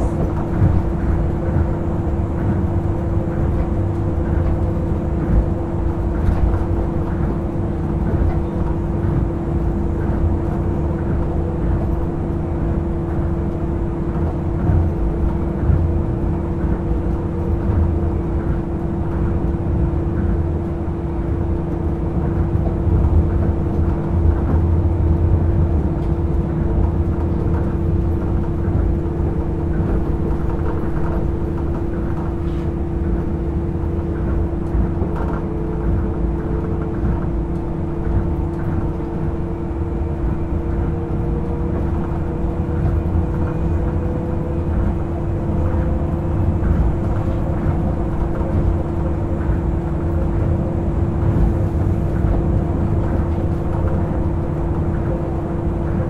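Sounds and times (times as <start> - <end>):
monorail car running: 0.0 - 56.0.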